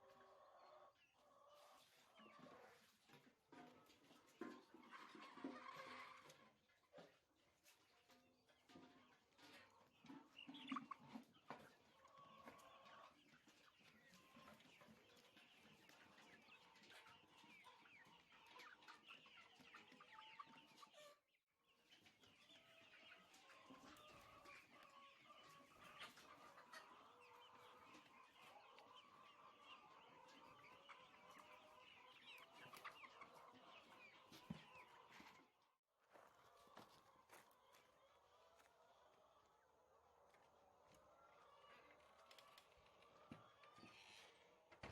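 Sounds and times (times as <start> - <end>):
chickens clucking and cheeping: 0.0 - 44.9.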